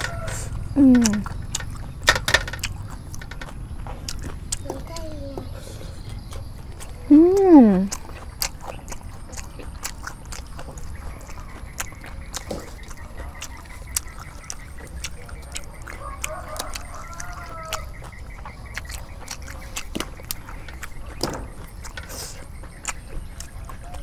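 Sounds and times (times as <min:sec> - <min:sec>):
chewing crispy pancake: 0:00.0 - 0:24.0
wet mouth clicks: 0:02.6 - 0:05.1, 0:06.0 - 0:24.0.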